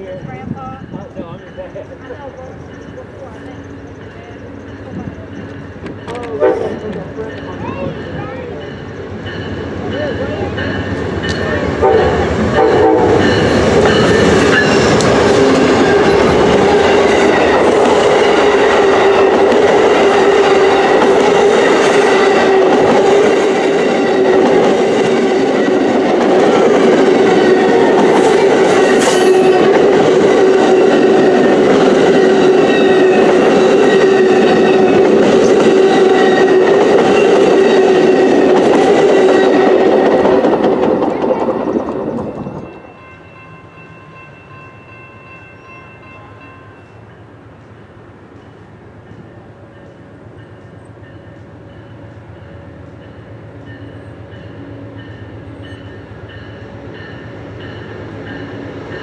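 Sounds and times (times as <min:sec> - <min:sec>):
passenger train passing: 0:00.0 - 0:59.0.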